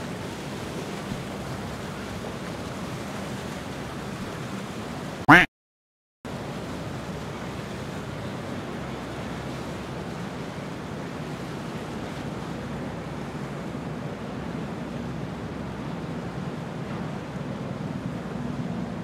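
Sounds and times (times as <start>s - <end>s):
low engine hum: 0.0s - 5.2s, 6.3s - 19.0s
rushing water: 0.0s - 5.3s, 6.3s - 19.0s.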